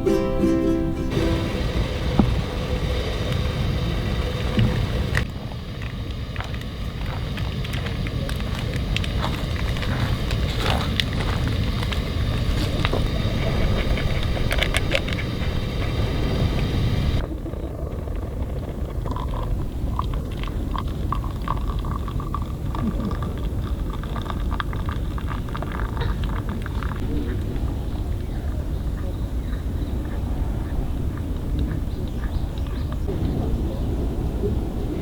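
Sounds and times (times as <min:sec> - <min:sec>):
fire crackling: 0:00.1 - 0:35.0
wind rumble on microphone: 0:01.1 - 0:35.0.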